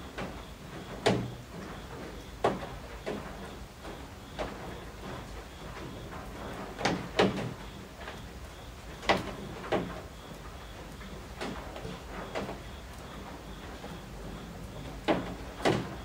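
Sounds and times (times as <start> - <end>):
rain patter: 0.0 - 16.0.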